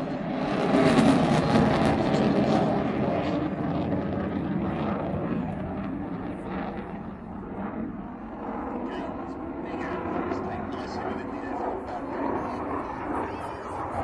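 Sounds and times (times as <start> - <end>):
plane flying past: 0.0 - 14.0.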